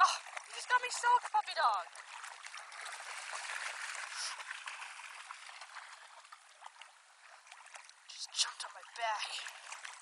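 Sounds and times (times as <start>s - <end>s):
water splashing in a river: 0.0s - 10.0s.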